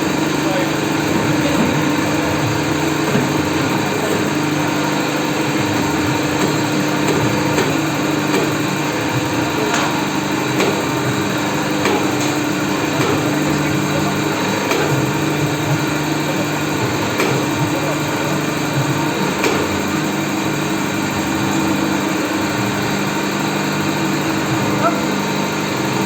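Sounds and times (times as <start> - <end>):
hydraulic pump motor humming: 0.0 - 26.0.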